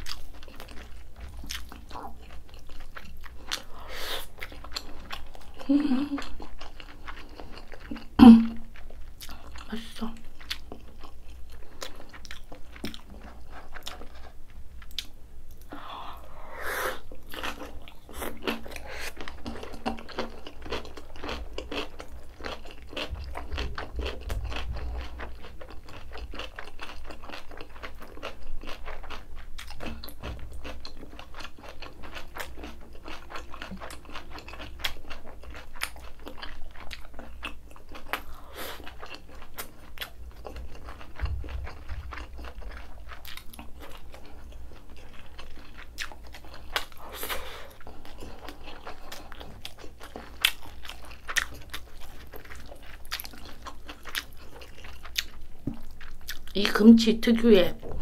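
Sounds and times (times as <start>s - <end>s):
wet crunchy chewing: 0.0s - 56.6s.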